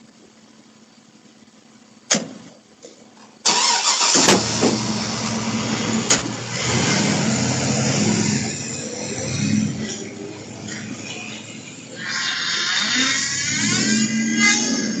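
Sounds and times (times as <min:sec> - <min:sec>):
vehicle engine starting and running: 0:00.0 - 0:15.0.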